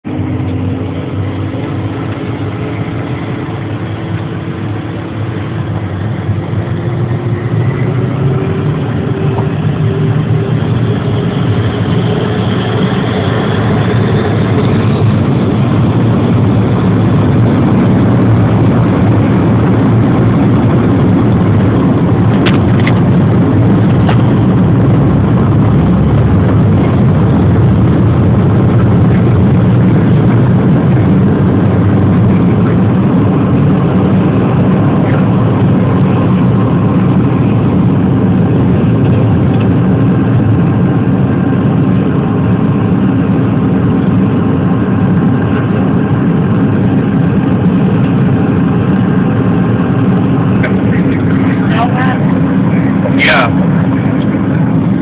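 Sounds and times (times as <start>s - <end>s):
engine and runway rush: 0.0s - 55.0s
jet engines whining: 0.0s - 55.0s.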